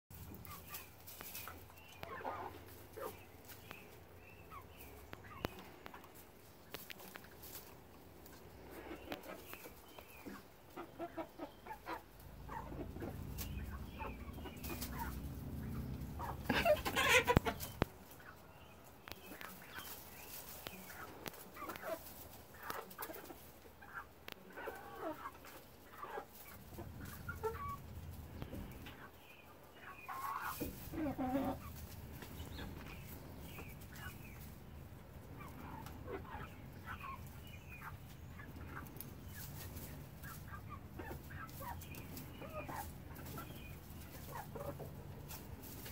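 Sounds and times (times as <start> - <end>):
hens clucking and calling: 0.2 - 45.9.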